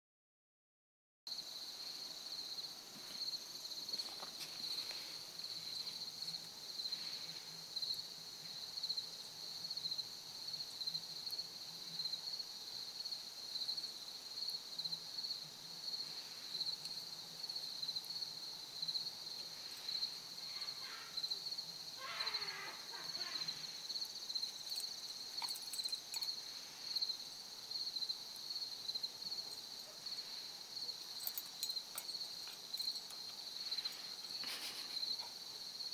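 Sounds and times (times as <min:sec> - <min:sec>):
crickets chirping: 0:01.3 - 0:35.9.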